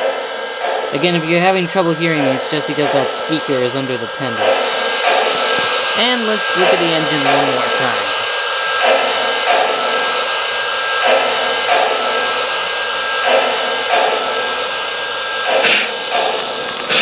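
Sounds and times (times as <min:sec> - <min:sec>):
soft locomotive chuffs: 0:00.0 - 0:17.0.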